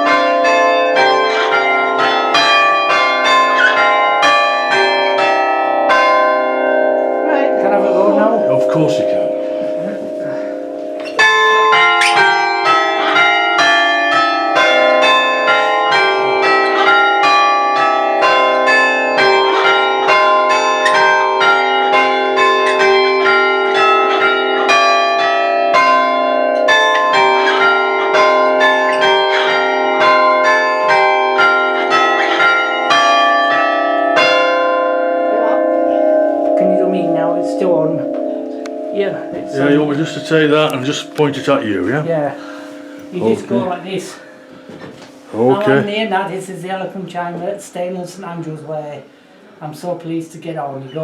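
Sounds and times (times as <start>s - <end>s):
church bells chiming: 0.0s - 44.7s.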